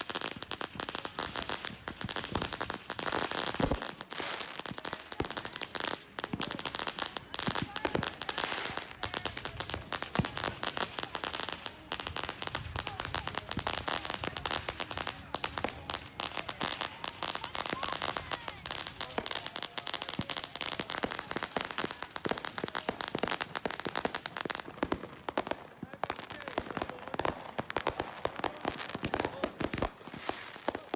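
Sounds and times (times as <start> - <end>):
fireworks popping and banging: 0.0 - 30.9.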